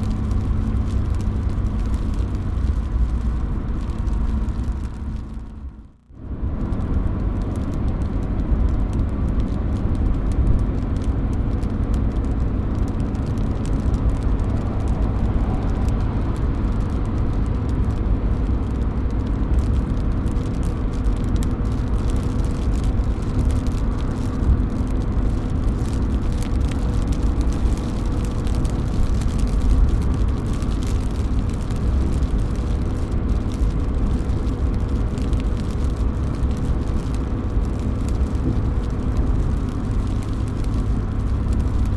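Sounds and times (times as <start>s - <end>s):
low rumble: 0.0s - 41.9s
rain dripping from roof: 0.0s - 41.9s.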